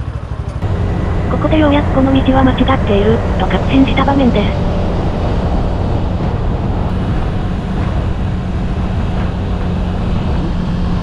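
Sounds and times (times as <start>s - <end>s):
motorcycle engine droning: 0.0s - 11.0s
wind and tyre noise: 0.0s - 11.0s.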